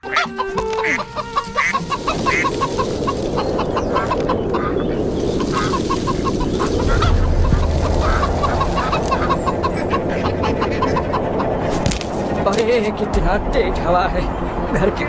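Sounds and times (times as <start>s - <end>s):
chickens clucking: 0.0s - 13.0s
loud steady rushing noise: 0.8s - 15.0s.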